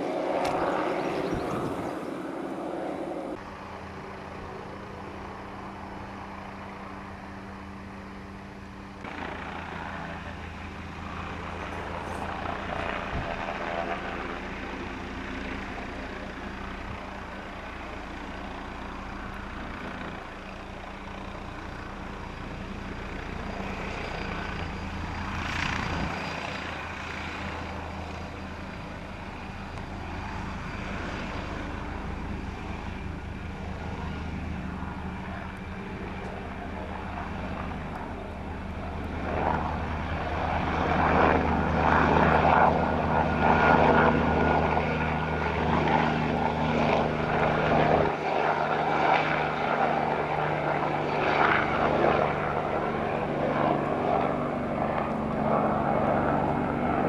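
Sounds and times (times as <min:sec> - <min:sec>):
helicopter rotors and turbines: 0:00.0 - 0:57.0.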